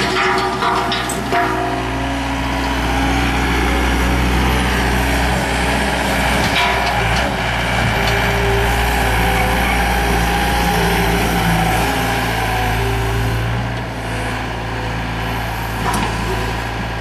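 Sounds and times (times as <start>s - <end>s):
diesel engine running under load: 0.0s - 17.0s
hydraulics whine: 0.0s - 17.0s.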